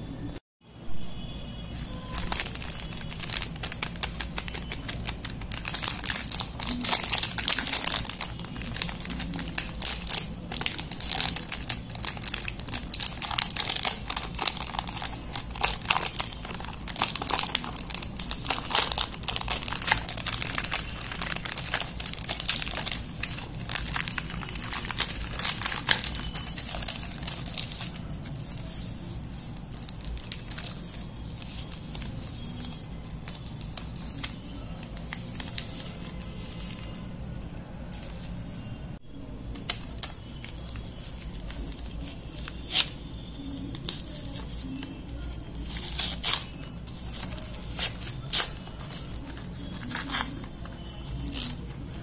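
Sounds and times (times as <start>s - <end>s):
wrapper and foil crinkling: 1.8s - 38.7s, 39.5s - 52.0s.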